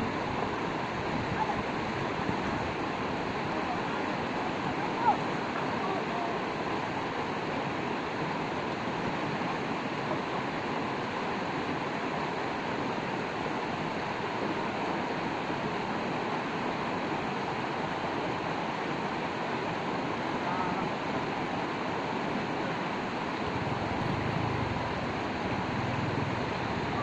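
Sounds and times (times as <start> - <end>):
river rushing over stones: 0.0 - 27.0.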